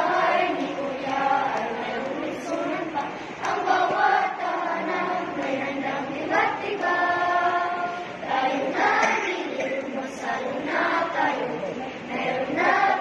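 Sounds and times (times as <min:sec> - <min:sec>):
children singing a carol: 0:00.0 - 0:13.0.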